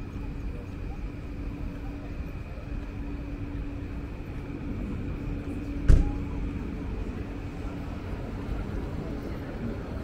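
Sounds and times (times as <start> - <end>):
low city rumble and hum: 0.0 - 10.0.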